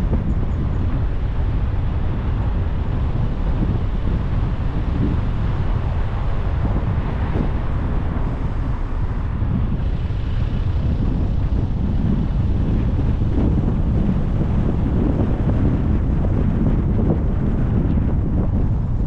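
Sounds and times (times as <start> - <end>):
car driving rumble: 0.0 - 19.0
wind buffeting microphone: 0.0 - 19.0.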